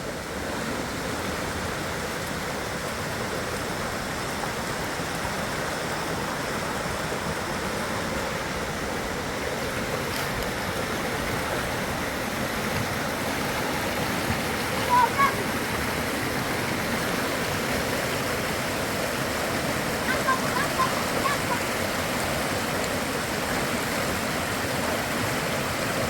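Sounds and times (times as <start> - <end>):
rushing river rapids: 0.0 - 26.0.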